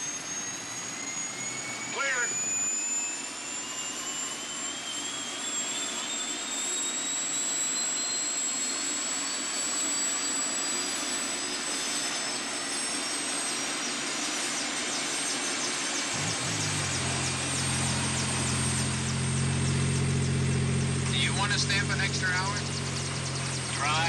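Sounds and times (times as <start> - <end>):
helicopter turbine whine rising: 0.0 - 24.0
rotor pulsing: 0.0 - 24.0.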